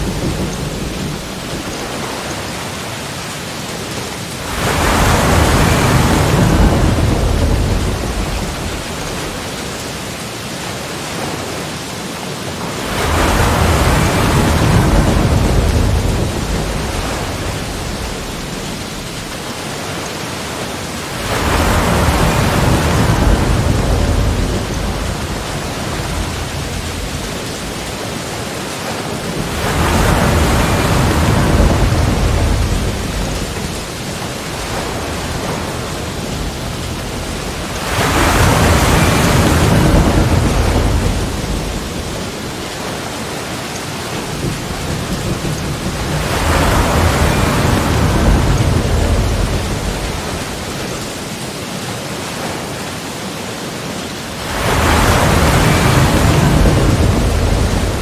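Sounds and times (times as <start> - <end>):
steady hiss of surf: 0.0 - 58.0
waves breaking and washing in: 0.0 - 58.0.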